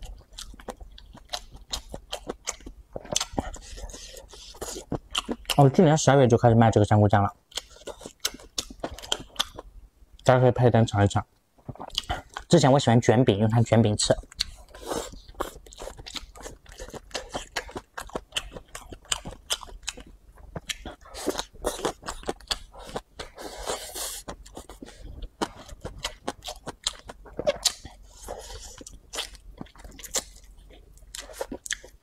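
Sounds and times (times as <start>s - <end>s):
person chewing noodles: 0.0s - 5.6s, 7.5s - 9.7s, 11.6s - 12.5s, 14.2s - 32.0s.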